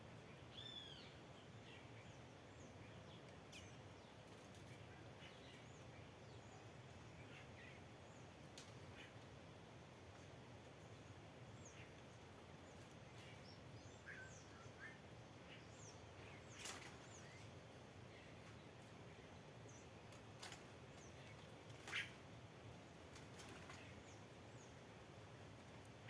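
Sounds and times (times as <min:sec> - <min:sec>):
steady low outdoor hiss: 0:00.0 - 0:26.0
small birds chirping: 0:00.1 - 0:26.0.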